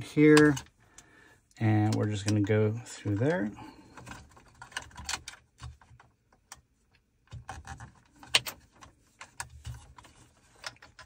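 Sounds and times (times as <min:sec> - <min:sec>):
cable clicks and rustles: 0:00.0 - 0:11.0.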